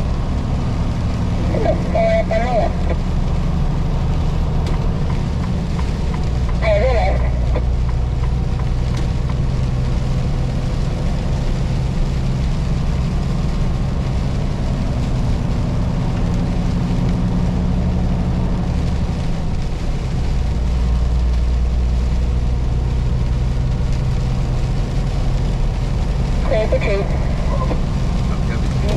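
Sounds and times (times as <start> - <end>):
truck diesel engine drone: 0.0 - 28.9.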